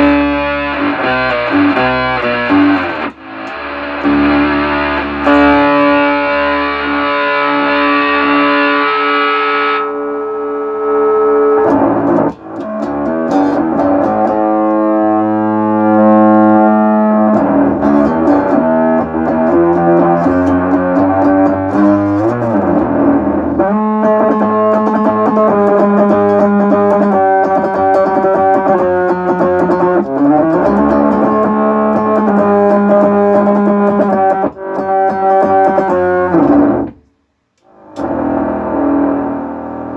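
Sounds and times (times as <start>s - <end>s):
bass synth notes: 0.0s - 37.0s, 37.7s - 39.9s.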